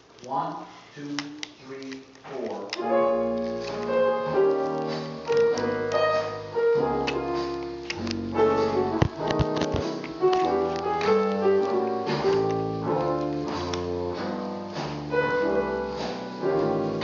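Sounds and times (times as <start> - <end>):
piano music: 2.7 - 17.0.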